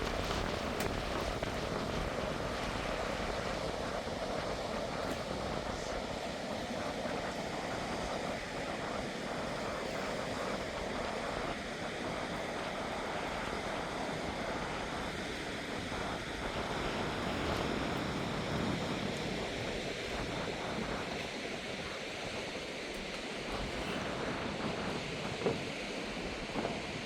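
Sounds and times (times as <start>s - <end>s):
rain: 0.0s - 27.0s
wind: 0.0s - 27.0s.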